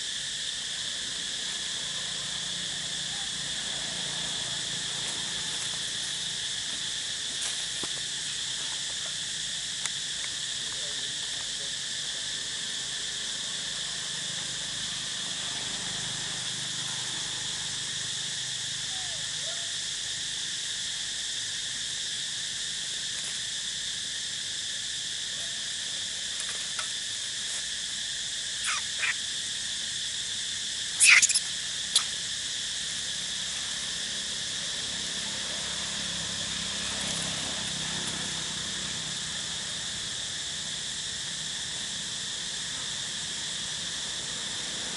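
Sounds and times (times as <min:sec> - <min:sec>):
insect chorus chirring: 0:00.0 - 0:44.9.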